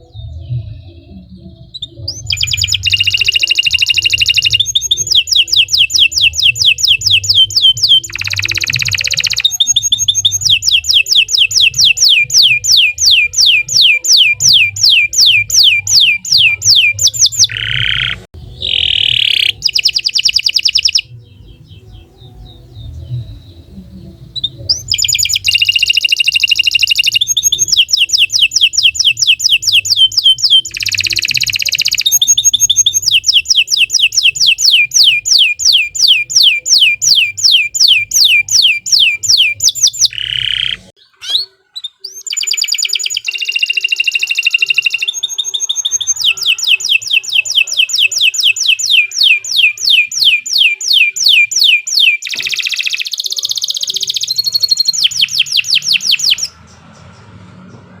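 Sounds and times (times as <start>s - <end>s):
canary singing trills: 0.0s - 57.3s.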